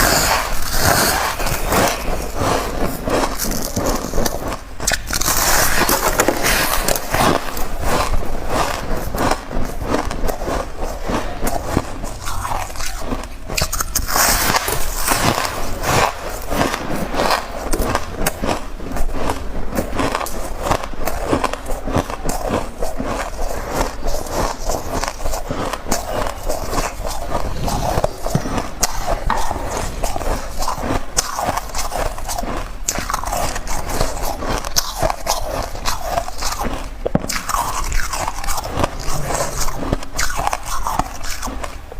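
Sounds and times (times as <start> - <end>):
ice being bitten and crunched: 0.0 - 41.9.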